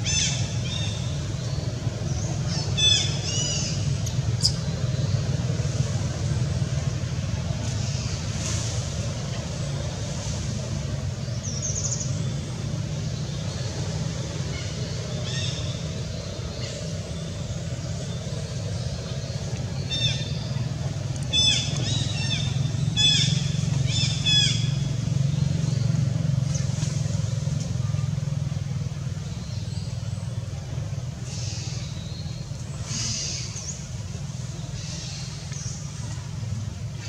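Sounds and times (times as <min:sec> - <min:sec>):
low motor-like rumble: 0:00.0 - 0:37.0.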